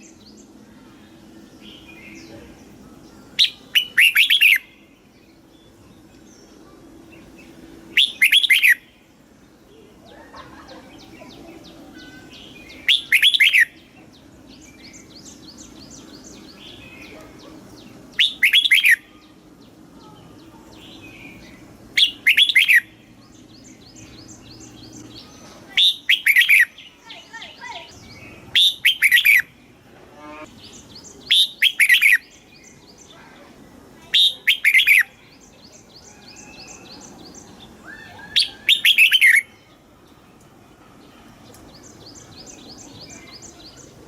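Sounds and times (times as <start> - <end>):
bulbul singing fluty phrases: 0.0 - 39.9
faint steady low hum: 0.0 - 44.0.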